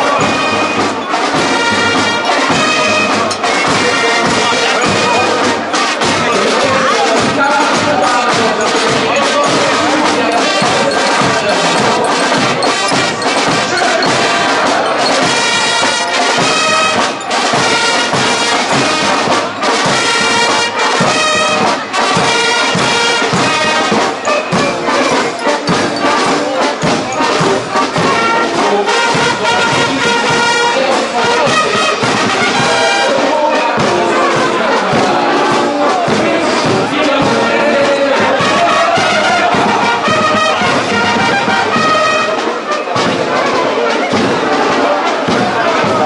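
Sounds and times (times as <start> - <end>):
snare and bass drums beating: 0.0 - 46.0
trumpets and trombones playing tune: 0.0 - 46.0.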